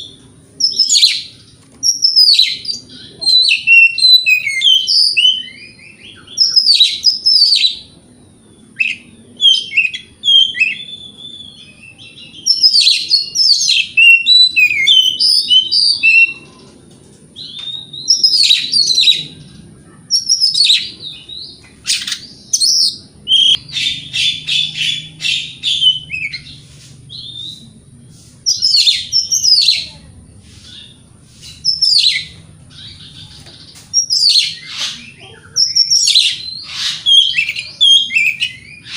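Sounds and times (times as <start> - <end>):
bird singing whistles and chatter: 0.0 - 7.9, 8.6 - 16.8, 17.4 - 27.8, 28.4 - 38.9.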